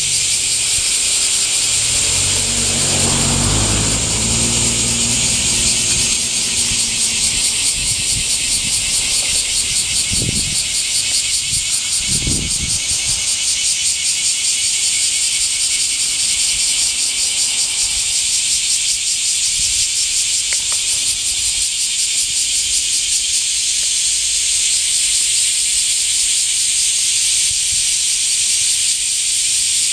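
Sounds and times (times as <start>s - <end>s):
cicadas buzzing: 0.0s - 29.9s.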